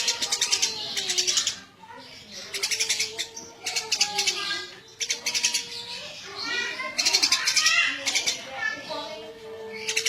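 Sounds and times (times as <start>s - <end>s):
sparrow chirping: 0.0s - 10.0s.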